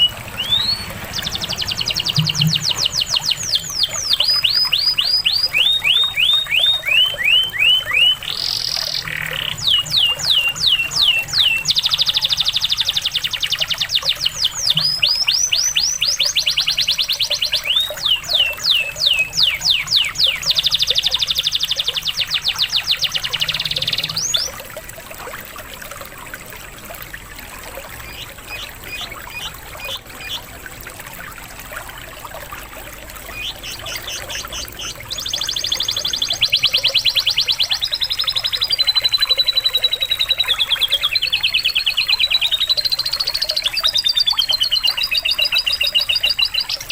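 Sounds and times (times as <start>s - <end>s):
canary singing: 0.0s - 24.6s, 28.0s - 30.5s, 33.2s - 46.9s
trickle of running water: 0.0s - 46.9s.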